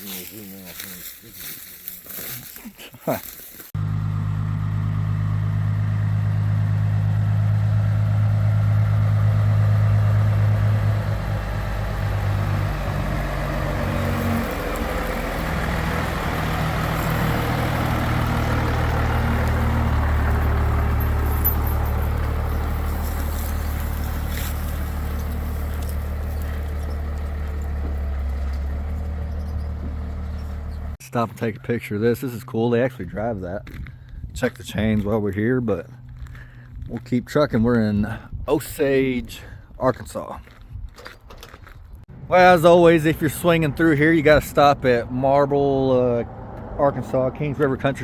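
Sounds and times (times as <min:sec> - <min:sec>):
pickup truck engine: 0:00.0 - 0:39.6, 0:40.4 - 0:48.0
road noise: 0:00.0 - 0:48.0.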